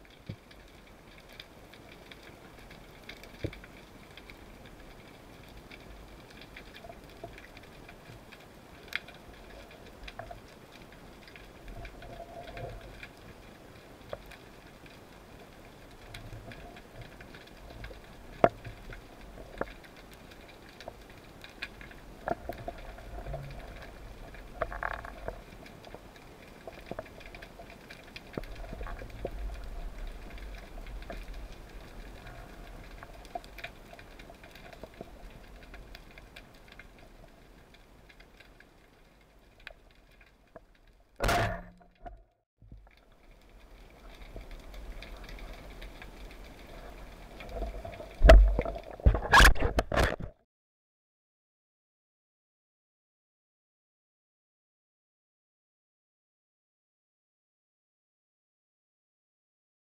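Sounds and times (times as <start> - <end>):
underwater clicks and crackles: 0.0 - 50.4
faint low underwater rumble: 0.4 - 49.2.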